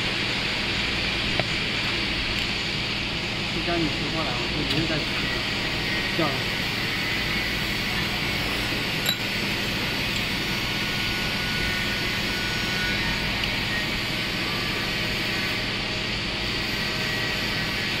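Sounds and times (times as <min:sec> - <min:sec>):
workshop machinery humming: 0:00.0 - 0:18.0.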